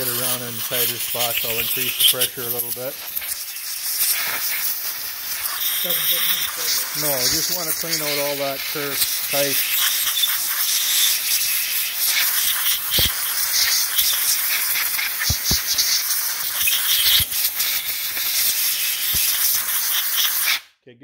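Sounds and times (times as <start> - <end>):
air blowgun hissing: 0.0 - 20.7.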